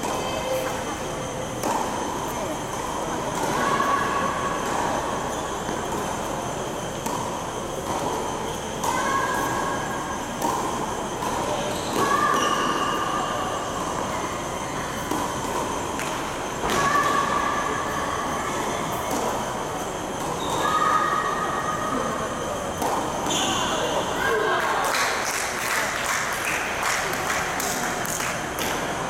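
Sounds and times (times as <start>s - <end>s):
reverberant indoor hall din: 0.0s - 29.0s.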